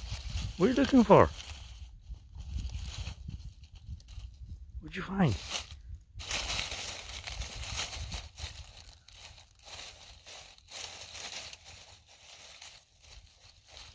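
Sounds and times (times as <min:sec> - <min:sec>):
animal digging through dry leaves: 0:00.0 - 0:04.5, 0:05.2 - 0:13.9.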